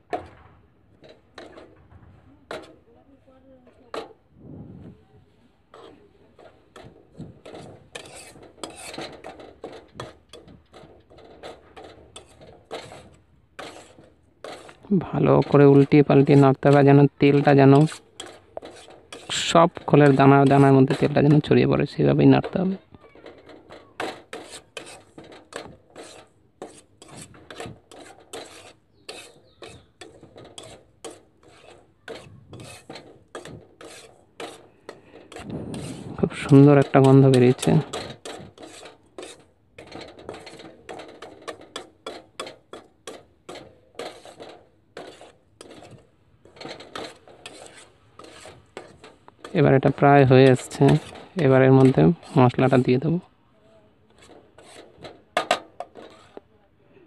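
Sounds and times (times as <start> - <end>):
metal spatula scraping a pan: 1.0 - 4.2, 5.6 - 56.5.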